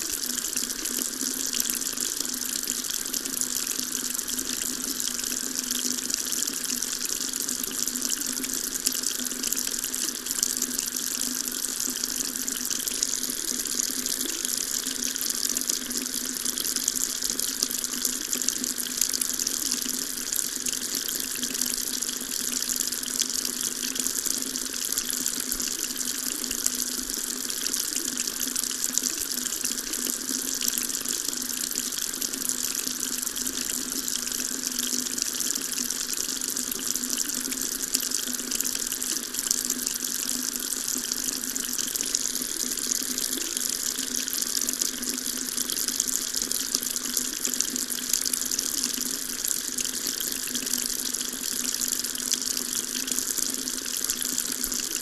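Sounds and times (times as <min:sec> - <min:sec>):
water tap running into sink: 0:00.0 - 0:55.0.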